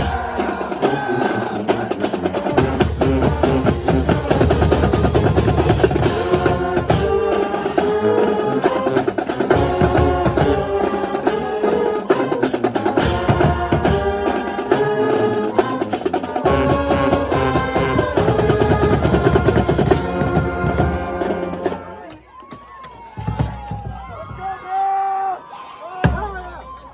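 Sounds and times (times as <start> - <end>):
school band playing: 0.0 - 24.1
snare and bass drums: 0.0 - 24.5
drum roll: 0.0 - 24.6.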